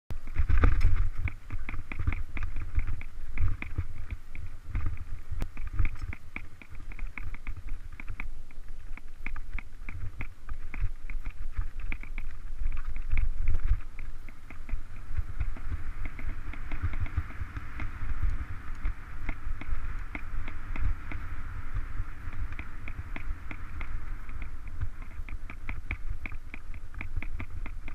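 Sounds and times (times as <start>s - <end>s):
low trail rumble and thumps: 0.1s - 27.9s
bike rattling clicks: 0.2s - 27.9s.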